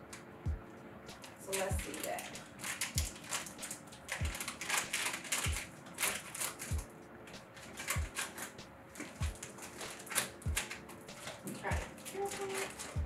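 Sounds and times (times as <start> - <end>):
scissors cutting plastic: 1.1 - 13.0
plastic bag crinkling: 1.2 - 13.0.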